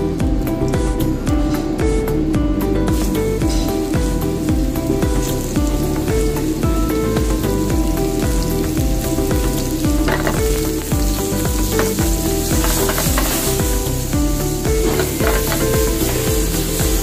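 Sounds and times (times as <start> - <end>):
background music with a beat: 0.0 - 17.0
mushrooms sizzling in a frying pan: 0.0 - 17.0.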